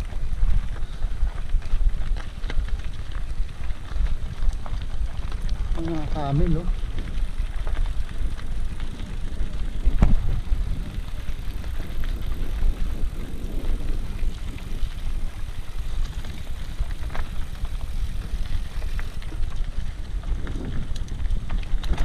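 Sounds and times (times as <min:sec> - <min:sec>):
vehicle rumbling on rough track: 0:00.0 - 0:22.0.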